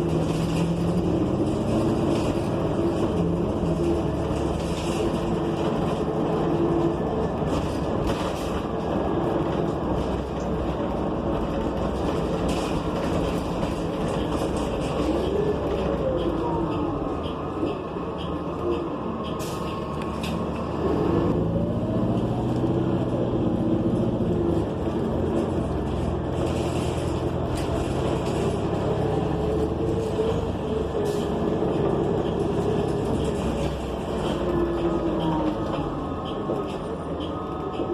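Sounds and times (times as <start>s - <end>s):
bus engine running: 0.0s - 37.9s
road noise: 0.0s - 37.9s.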